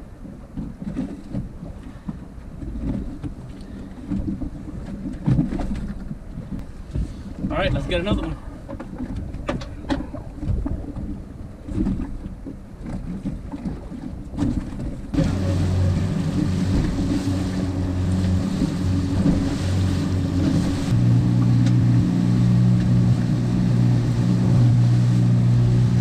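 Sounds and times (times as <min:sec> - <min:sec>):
hull pushing through water: 0:00.0 - 0:26.0
motorboat engine running: 0:00.0 - 0:26.0
water around a boat: 0:00.0 - 0:26.0
wind: 0:00.0 - 0:26.0.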